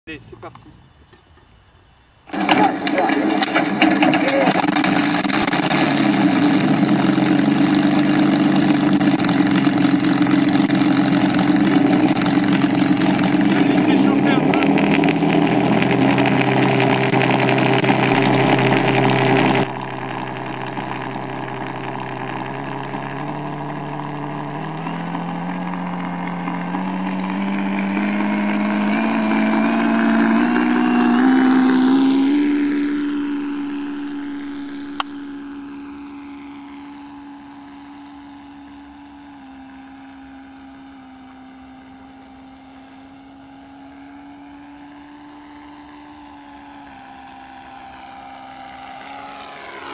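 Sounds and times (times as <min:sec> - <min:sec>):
distorted aircraft engine sound: 0:00.0 - 0:49.9.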